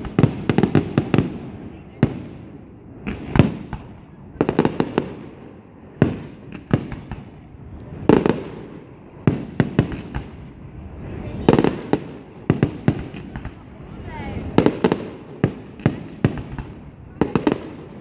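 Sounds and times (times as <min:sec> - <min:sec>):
fireworks bursting with echo: 0:00.0 - 0:18.0.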